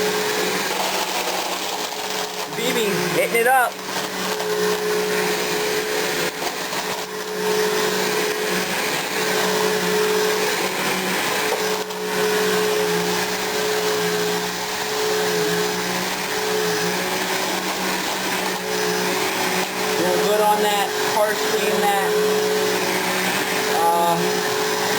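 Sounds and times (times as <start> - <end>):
vacuum cleaner running: 0.0 - 24.9.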